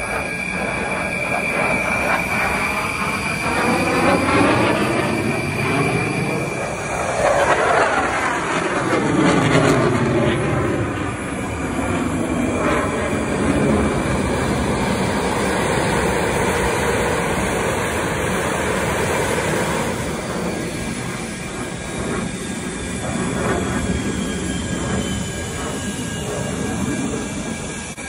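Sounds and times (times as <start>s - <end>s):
faint high whine falling in pitch: 0.0s - 28.0s
fighter jet engine roar: 0.0s - 28.0s.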